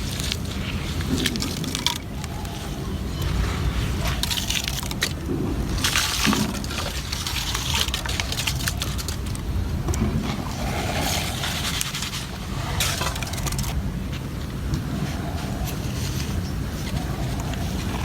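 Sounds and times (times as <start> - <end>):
cement crumbling and crunching: 0.0 - 14.6.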